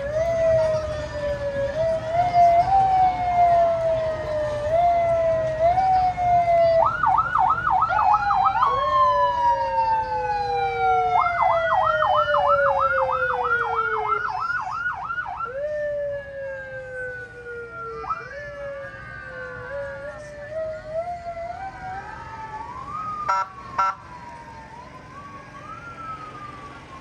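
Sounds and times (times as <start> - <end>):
emergency sirens wailing: 0.0 - 27.0.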